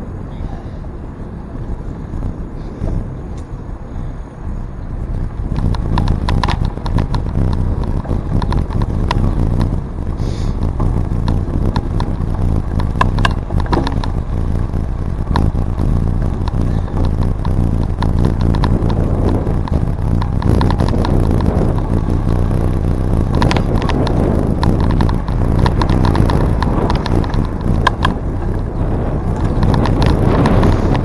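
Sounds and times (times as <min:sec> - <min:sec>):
bicycle tyres and wind rumble: 0:00.0 - 0:31.0
bike rattling clicks: 0:05.0 - 0:31.0.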